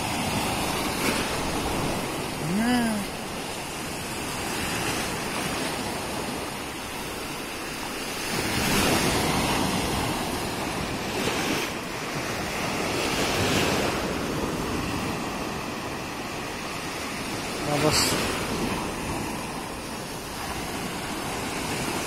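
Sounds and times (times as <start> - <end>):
small sea waves breaking: 0.0 - 22.0.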